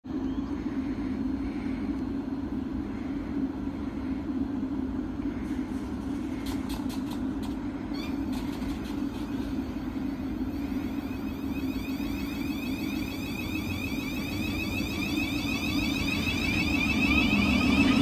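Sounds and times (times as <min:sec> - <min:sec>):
train equipment humming: 0:00.1 - 0:18.0.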